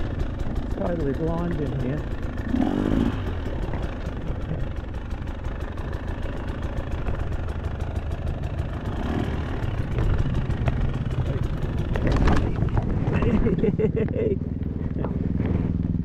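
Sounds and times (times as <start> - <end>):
dirt bike engine at low revs: 0.0 - 16.0.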